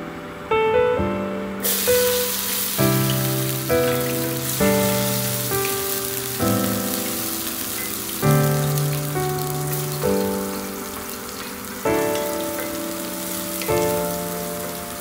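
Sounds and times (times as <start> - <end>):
piano music: 0.0 - 15.0
oil sizzling in a wok: 1.6 - 15.0.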